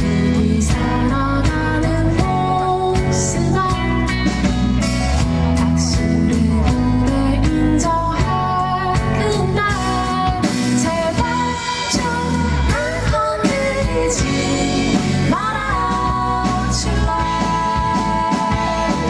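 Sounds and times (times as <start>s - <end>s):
woman singing: 0.0s - 4.6s, 5.6s - 19.0s
indie pop band playing: 0.0s - 19.0s.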